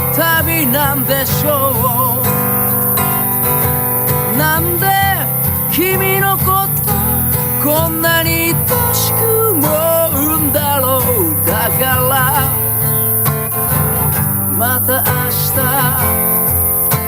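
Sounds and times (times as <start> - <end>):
person singing: 0.0 - 3.0, 4.2 - 17.0
strummed acoustic guitar: 0.0 - 17.0.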